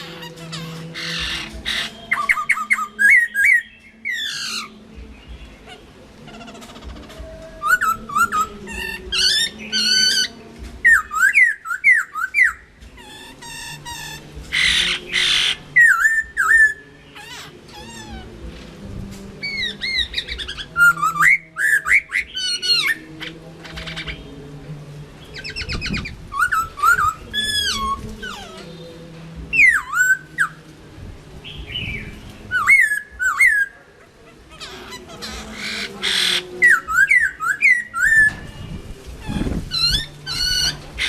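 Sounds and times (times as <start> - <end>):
bird whistling song: 0.0 - 18.3, 19.4 - 23.1, 25.3 - 28.7, 29.5 - 30.6, 31.4 - 33.8, 34.6 - 41.0.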